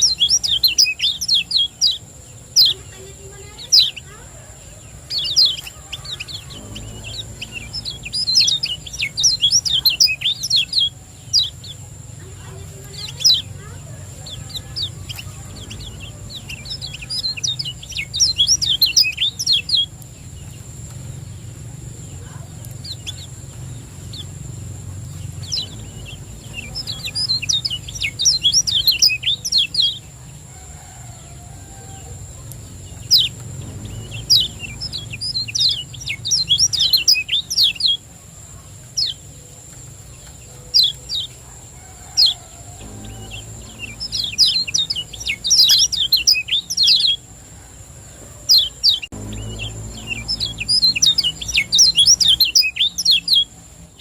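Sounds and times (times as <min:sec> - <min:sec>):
bird rapid high chirping: 0:00.0 - 0:30.3, 0:31.8 - 0:47.3, 0:48.5 - 0:54.0.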